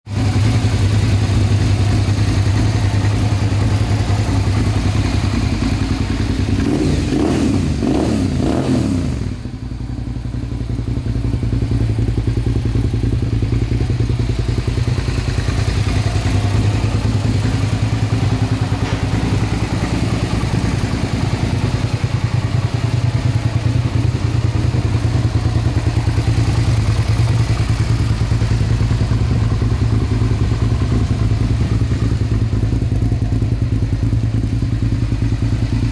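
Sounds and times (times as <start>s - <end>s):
motorcycle engine idling: 0.1s - 35.9s.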